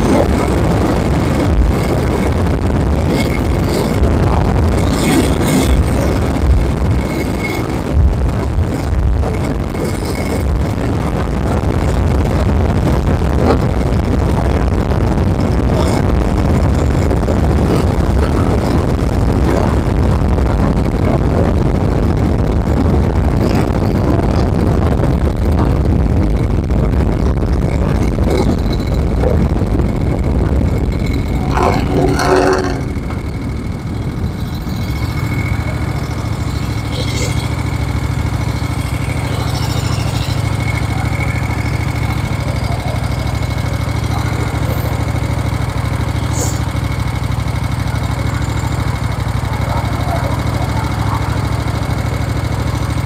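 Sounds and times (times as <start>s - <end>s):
motorcycle engine running: 0.0s - 53.0s
rushing wind noise: 0.0s - 53.0s.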